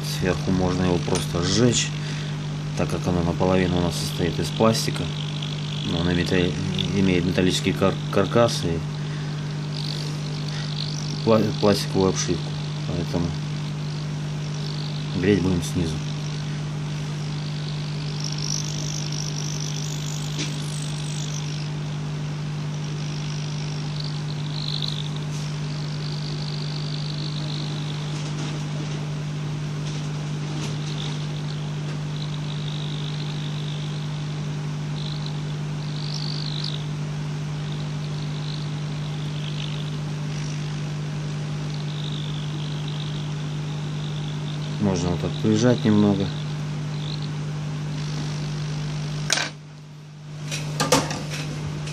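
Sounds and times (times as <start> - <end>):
blower humming: 0.0 - 51.9.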